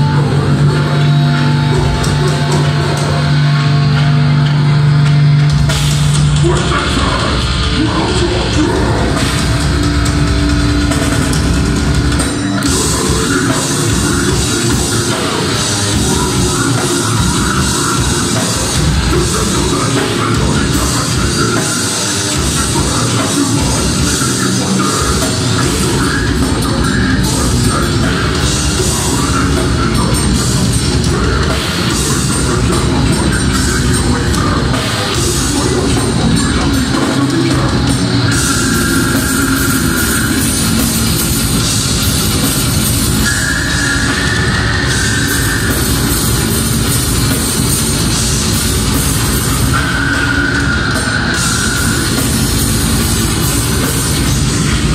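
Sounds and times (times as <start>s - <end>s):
distorted electric guitars: 0.0s - 54.9s
drum kit: 0.0s - 54.9s
rock vocals: 0.0s - 54.9s.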